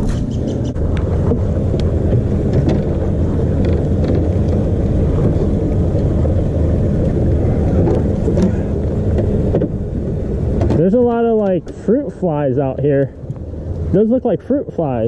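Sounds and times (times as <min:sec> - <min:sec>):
outboard motor droning: 0:00.0 - 0:15.0.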